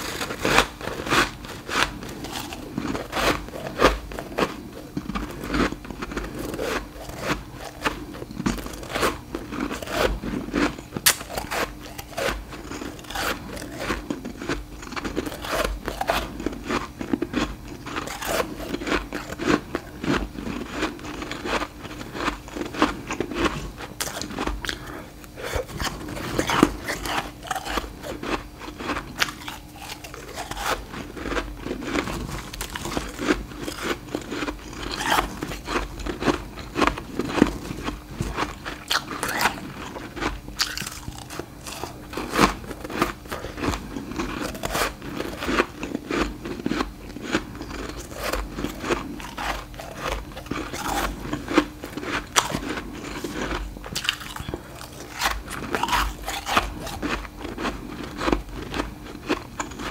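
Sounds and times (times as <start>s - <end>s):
frost being chewed with crunches: 0.0s - 59.9s.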